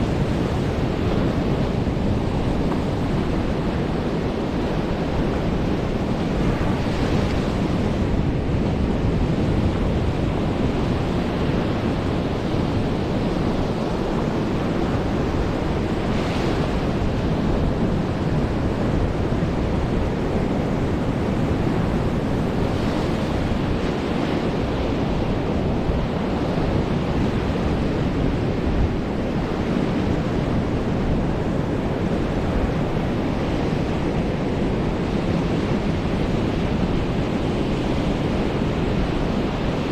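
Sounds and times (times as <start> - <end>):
ocean surf washing in: 0.0 - 39.9
waves breaking: 0.0 - 39.9
wind buffeting microphone: 0.0 - 39.9.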